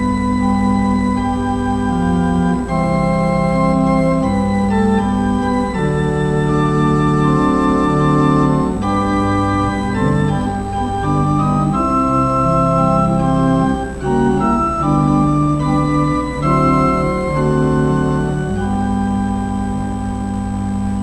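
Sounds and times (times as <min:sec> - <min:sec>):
organ slow held chords: 0:00.0 - 0:21.0.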